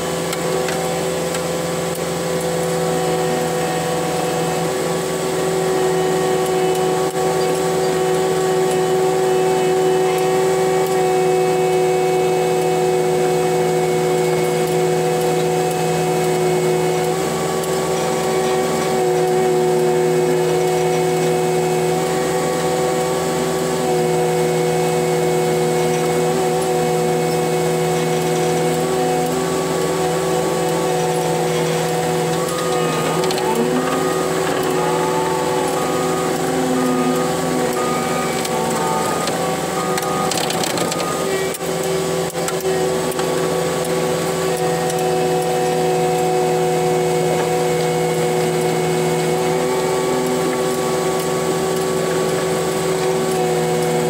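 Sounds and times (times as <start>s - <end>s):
diesel engine and hydraulics drone: 0.0s - 54.0s.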